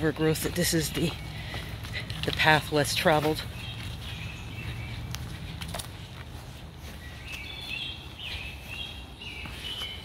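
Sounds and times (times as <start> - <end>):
birds chirping: 0.0 - 10.0
footsteps on dry leaves: 0.0 - 10.0.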